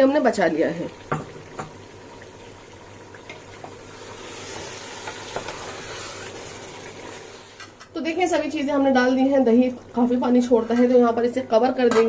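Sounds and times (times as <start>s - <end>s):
curry sizzling in a pot: 0.0s - 12.0s.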